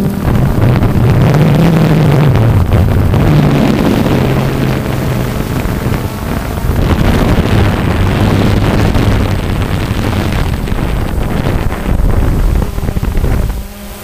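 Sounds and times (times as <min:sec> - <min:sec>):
drone motors humming: 0:00.0 - 0:14.0
rumbling wind noise: 0:00.0 - 0:14.0.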